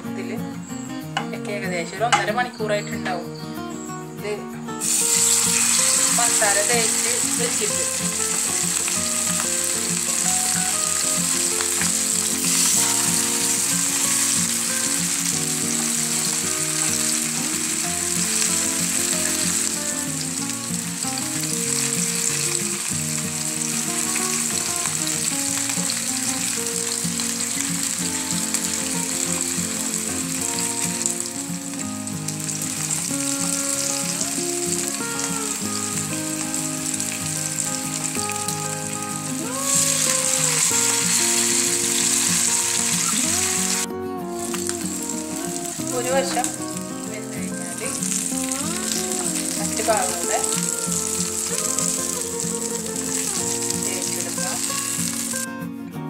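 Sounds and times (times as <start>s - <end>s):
background music: 0.0s - 56.0s
fish sizzling in a pan: 4.2s - 55.5s.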